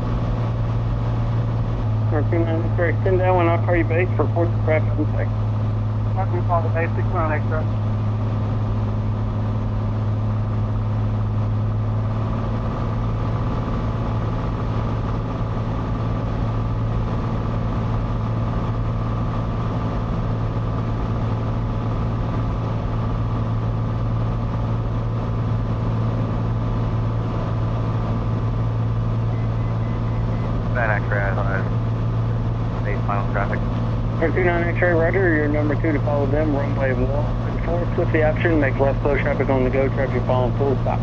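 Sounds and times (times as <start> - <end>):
airplane engine and propeller drone: 0.0 - 41.0.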